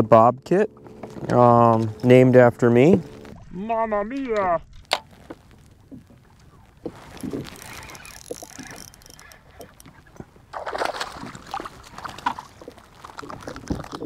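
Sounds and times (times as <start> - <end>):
water splashing and sloshing: 0.6 - 14.0.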